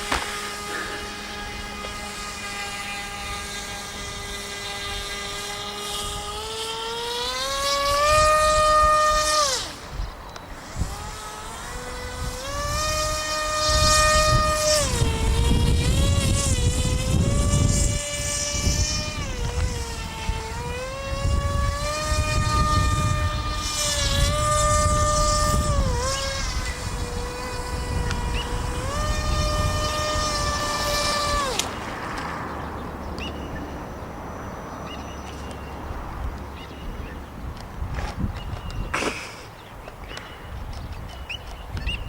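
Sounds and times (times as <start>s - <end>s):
model plane motor whining: 0.0s - 42.0s.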